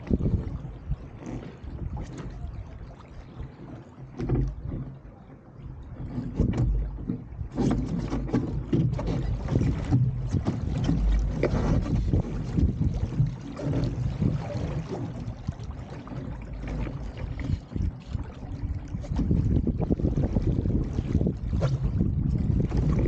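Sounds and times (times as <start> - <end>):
wind buffeting microphone: 0.0 - 5.0, 5.6 - 23.0
water splashing along a hull: 0.0 - 23.0.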